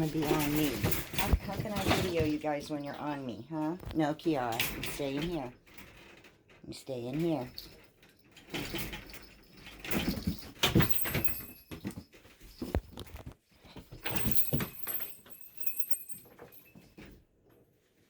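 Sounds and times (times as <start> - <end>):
monkeys rustling and bumping: 0.0 - 6.4, 7.2 - 17.2.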